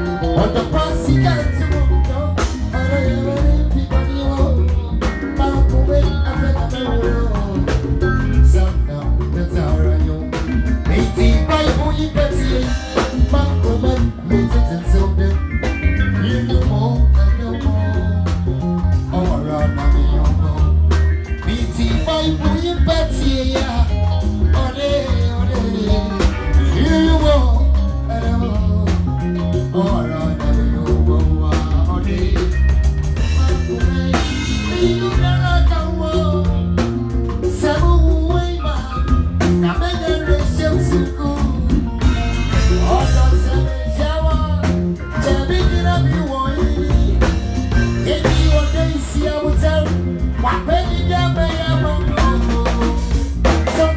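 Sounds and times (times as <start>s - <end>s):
drum kit: 0.0s - 53.9s
heavy bass line: 0.0s - 53.9s
person singing: 0.0s - 53.9s.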